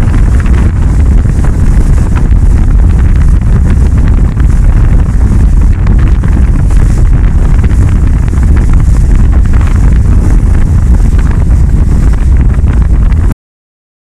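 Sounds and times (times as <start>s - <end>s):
water rushing along hull: 0.0s - 13.3s
wind buffeting microphone: 0.0s - 13.4s.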